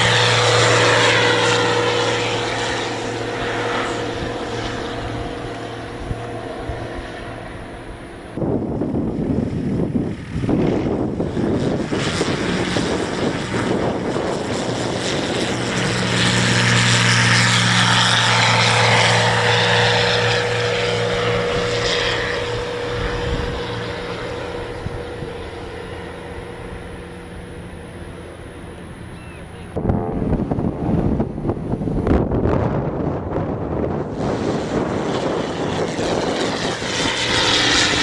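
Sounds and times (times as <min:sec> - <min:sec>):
light aircraft engine and propeller drone: 0:00.0 - 0:38.0.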